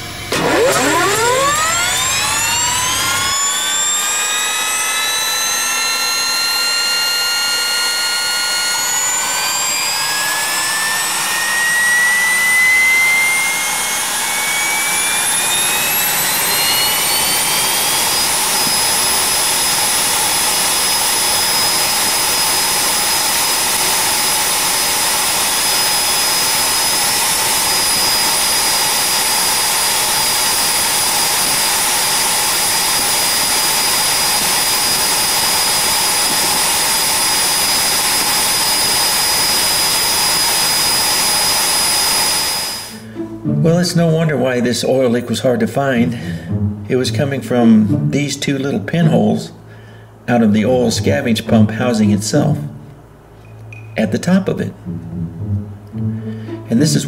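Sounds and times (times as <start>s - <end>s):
turbine engine whine: 0.0s - 57.0s.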